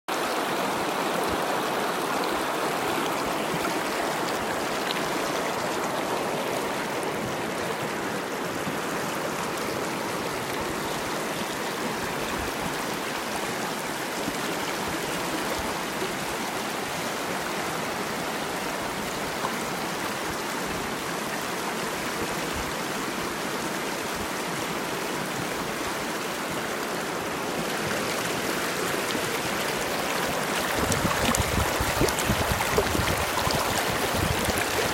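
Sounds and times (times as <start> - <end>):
river running over rocks: 0.1 - 34.9.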